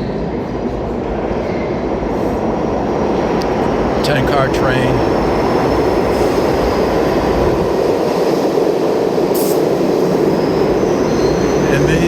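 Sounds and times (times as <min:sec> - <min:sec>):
subway train wheels rumbling on rail: 0:00.0 - 0:12.0.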